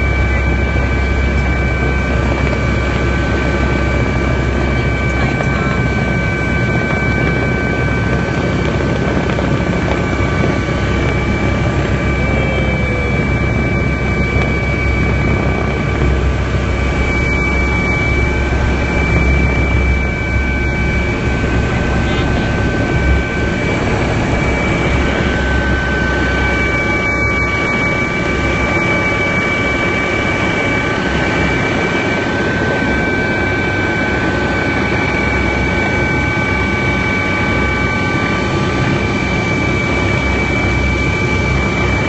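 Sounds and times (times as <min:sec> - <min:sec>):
helicopter cabin rush and drone: 0:00.0 - 0:42.0
high whining tones: 0:00.0 - 0:42.0.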